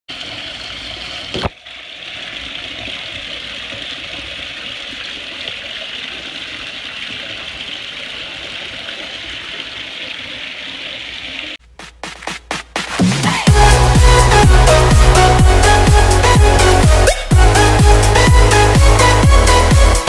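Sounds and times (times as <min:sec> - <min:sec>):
water rushing: 0:00.1 - 0:11.6, 0:13.4 - 0:20.0.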